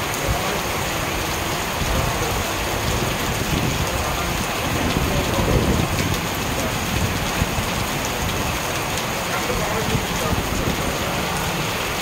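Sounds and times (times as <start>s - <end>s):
heavy rain splashing on paving: 0.0s - 12.0s.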